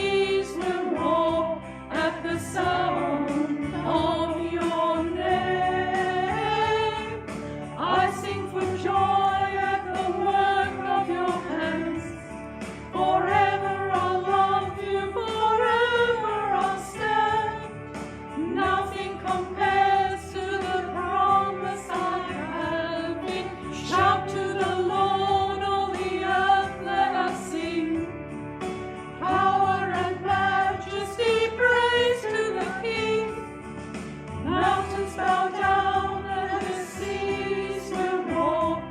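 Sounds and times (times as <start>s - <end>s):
group singing a hymn: 0.0s - 28.2s, 29.1s - 33.5s, 34.4s - 38.9s
instrumental accompaniment: 0.0s - 38.9s.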